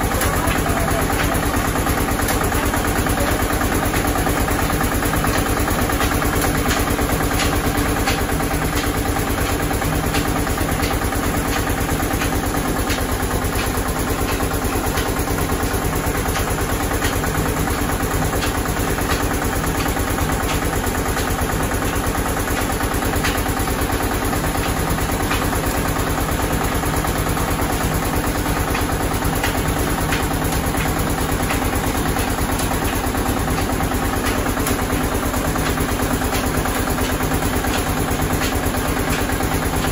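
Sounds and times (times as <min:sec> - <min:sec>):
press machinery humming: 0:00.0 - 0:39.9.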